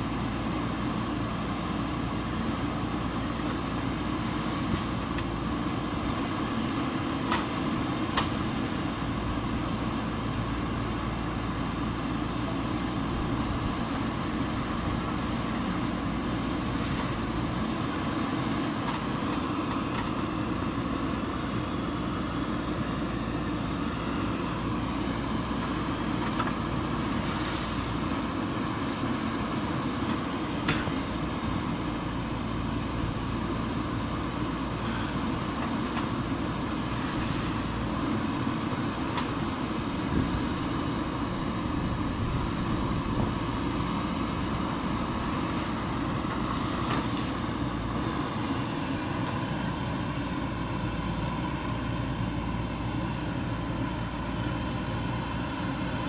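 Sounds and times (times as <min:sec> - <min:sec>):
backhoe digging earth: 0:00.0 - 0:56.0
diesel engine running: 0:00.0 - 0:56.0.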